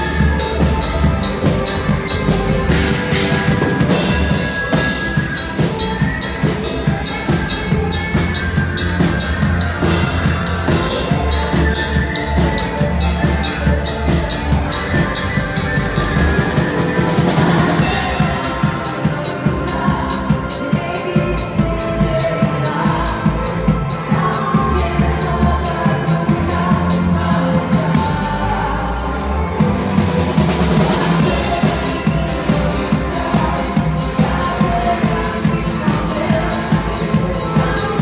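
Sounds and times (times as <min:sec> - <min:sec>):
bass line: 0:00.0 - 0:38.0
drum kit beat: 0:00.0 - 0:38.0
live band playing dance music: 0:00.0 - 0:38.0.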